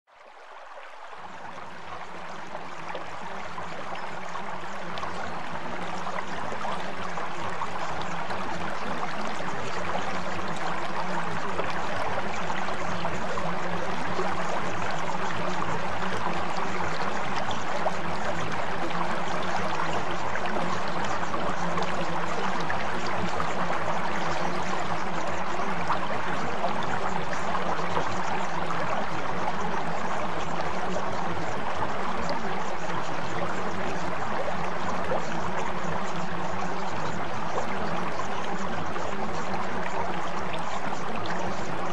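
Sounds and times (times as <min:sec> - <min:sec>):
running water stream: 0:00.1 - 0:41.9.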